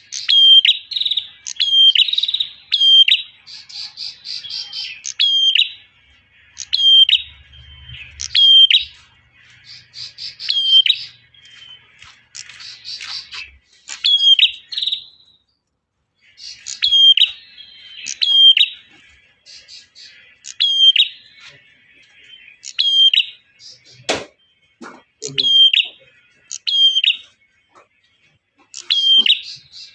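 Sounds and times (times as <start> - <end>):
bird calling sharp phrases: 0.0 - 15.4, 16.2 - 28.0, 28.6 - 29.9.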